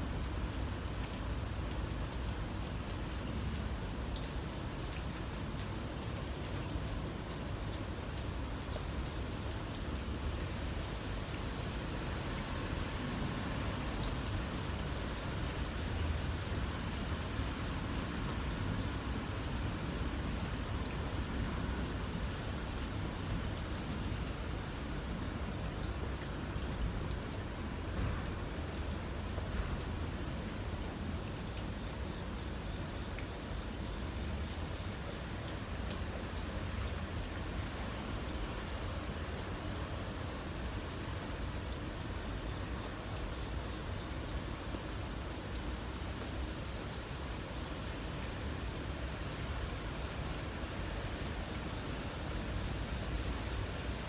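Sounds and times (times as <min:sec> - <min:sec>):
crickets trilling: 0:00.0 - 0:54.0
light rain hiss: 0:00.0 - 0:54.0.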